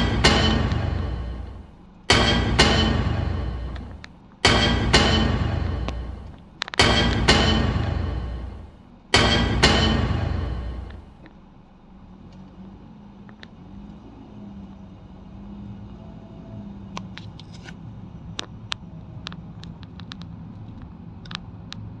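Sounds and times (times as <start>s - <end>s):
road rumble: 0.0s - 22.0s.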